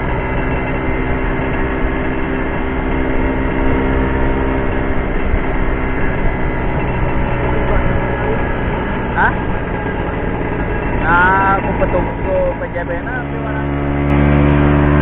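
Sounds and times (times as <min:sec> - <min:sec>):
road rush: 0:00.0 - 0:15.0
scooter engine running: 0:00.0 - 0:15.0.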